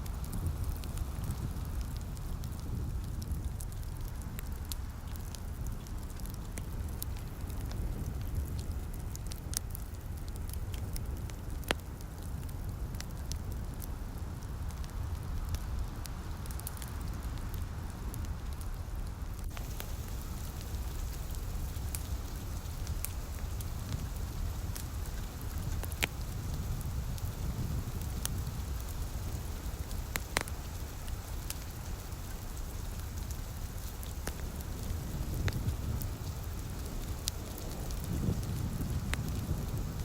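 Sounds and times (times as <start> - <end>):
fireplace crackling and popping: 0.0 - 40.0
light rain hiss: 0.0 - 40.0.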